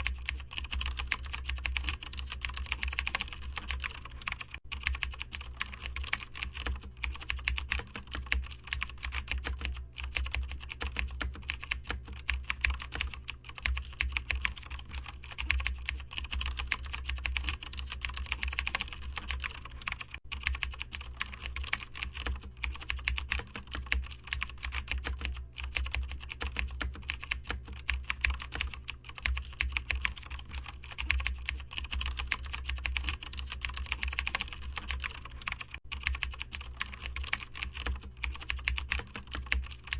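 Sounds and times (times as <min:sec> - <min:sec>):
keyboard typing: 0:00.0 - 0:39.9
steady low hum: 0:00.0 - 0:39.9.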